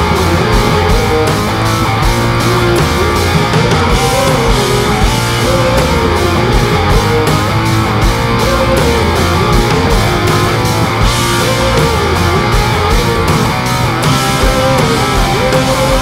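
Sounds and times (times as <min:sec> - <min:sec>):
rock guitar melody: 0:00.0 - 0:16.0
steady drum beat: 0:00.0 - 0:16.0.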